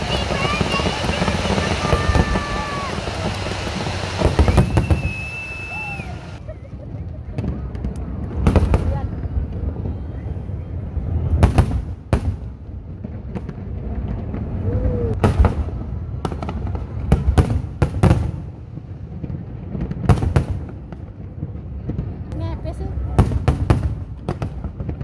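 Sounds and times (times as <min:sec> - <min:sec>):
continuous low rumble: 0:00.0 - 0:25.0
fireworks bangs: 0:00.0 - 0:25.0.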